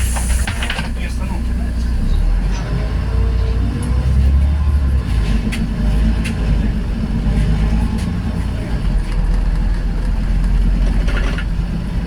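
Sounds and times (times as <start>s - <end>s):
vehicle rumble in motion: 0.0s - 12.0s.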